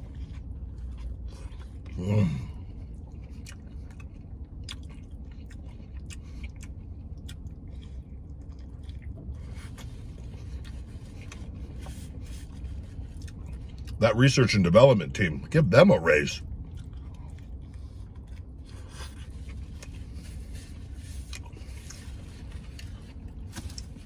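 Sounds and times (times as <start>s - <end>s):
man chewing with wet clicks: 0.0s - 14.1s, 16.4s - 24.0s
steady low hum: 0.0s - 24.0s.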